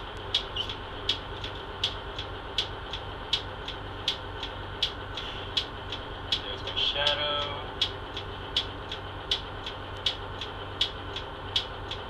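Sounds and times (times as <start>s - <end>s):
diesel bus engine humming: 0.0s - 12.0s
sharp ticking: 0.1s - 12.0s.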